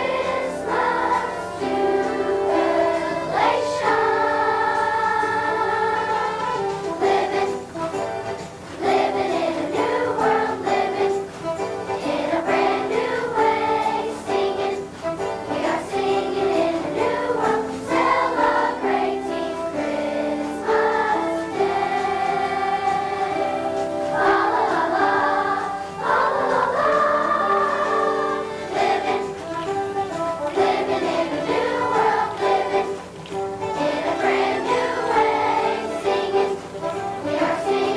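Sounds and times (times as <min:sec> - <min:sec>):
children's choir singing: 0:00.0 - 0:37.9.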